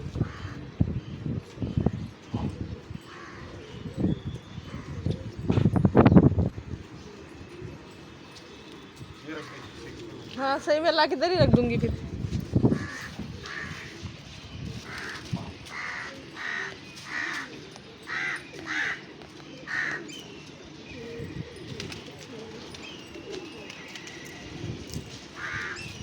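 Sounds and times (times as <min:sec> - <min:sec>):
birds making harsh calls: 0:00.0 - 0:26.0.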